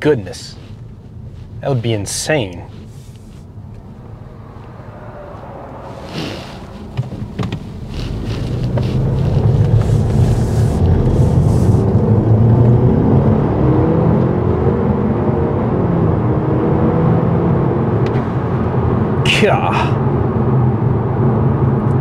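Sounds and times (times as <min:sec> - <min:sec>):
car engine accelerating: 0:02.5 - 0:22.0.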